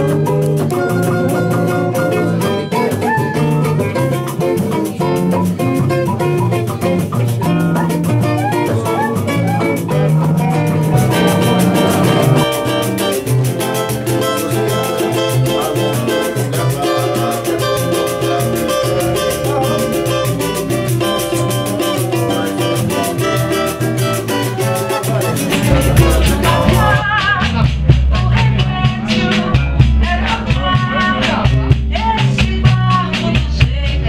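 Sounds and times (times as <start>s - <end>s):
percussion beat: 0.0s - 34.0s
samba acoustic guitar: 0.0s - 34.0s.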